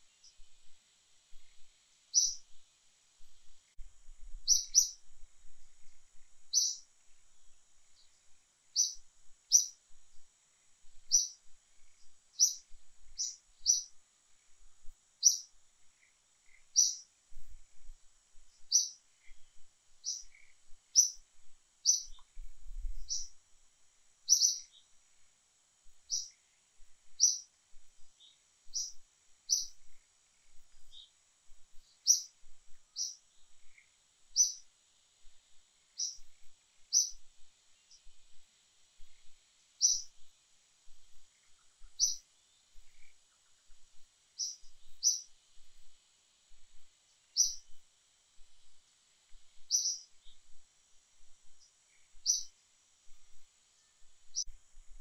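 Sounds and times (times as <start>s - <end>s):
small bird chirping: 0.0s - 23.5s, 24.2s - 50.6s, 51.2s - 55.0s.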